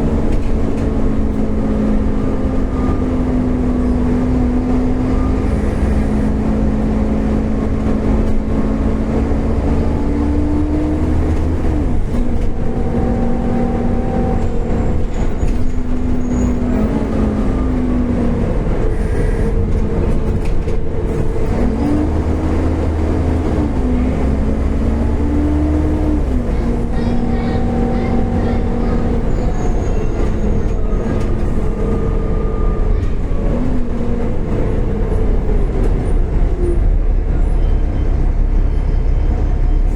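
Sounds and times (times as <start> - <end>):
bus engine rumble: 0.0 - 39.9
drivetrain whine: 0.0 - 39.9.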